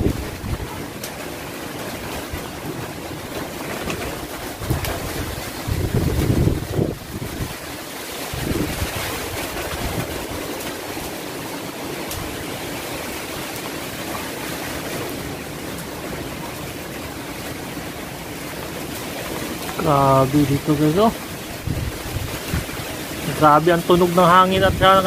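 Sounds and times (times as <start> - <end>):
strong wind blowing through trees: 0.0 - 25.0.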